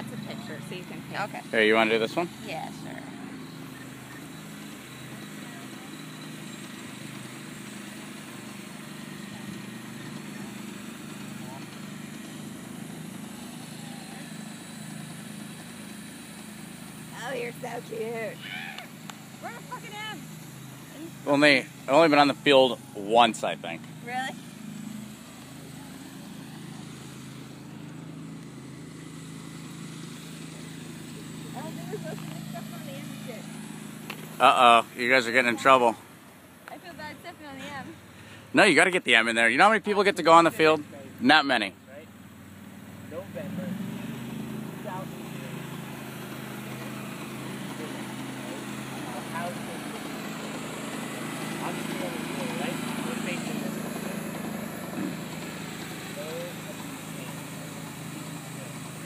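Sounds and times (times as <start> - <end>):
low mechanical drone: 0.0 - 38.6, 39.6 - 59.0.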